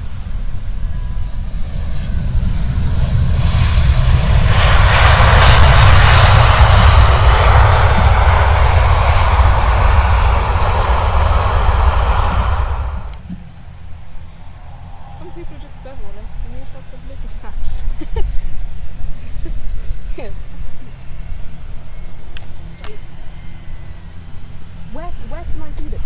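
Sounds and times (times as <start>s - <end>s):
airliner engine roar: 0.0s - 26.0s
heavy low rumble: 0.0s - 26.0s.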